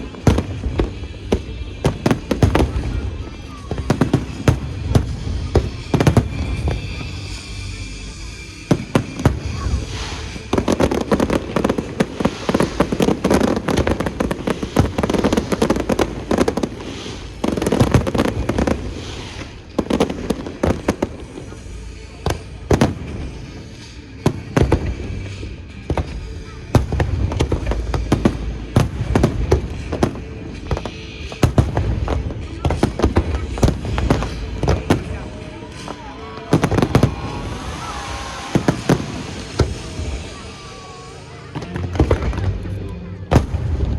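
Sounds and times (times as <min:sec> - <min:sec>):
dense fireworks crackling: 0:00.0 - 0:43.9
fireworks bursting with sharp bangs: 0:00.0 - 0:43.9
music playing: 0:00.0 - 0:43.9.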